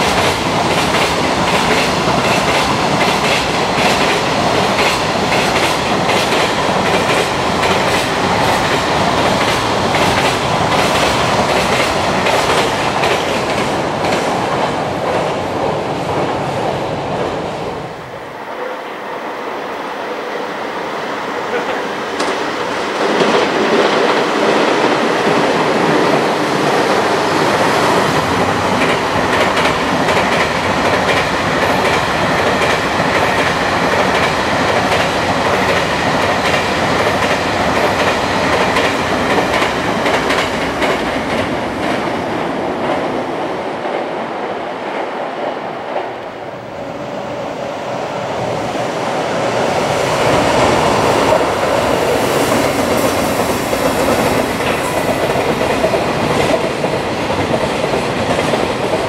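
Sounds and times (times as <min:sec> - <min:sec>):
freight train wheels clattering: 0:00.0 - 0:17.4, 0:21.5 - 0:42.2, 0:49.8 - 0:59.0.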